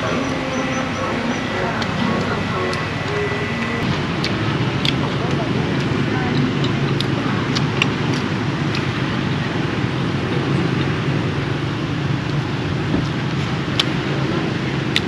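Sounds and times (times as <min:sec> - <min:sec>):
road traffic hum: 0:00.0 - 0:15.0
wind rumbling on microphone: 0:00.0 - 0:15.0.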